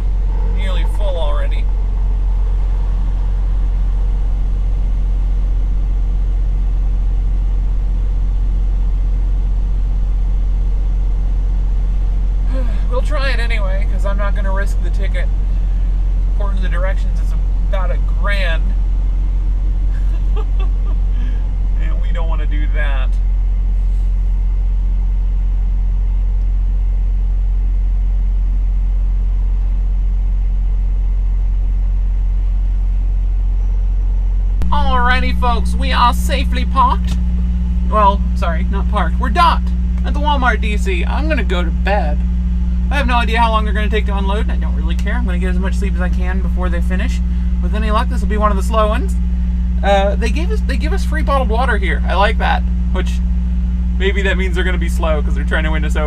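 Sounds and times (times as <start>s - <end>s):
truck engine and road drone: 0.0s - 56.0s.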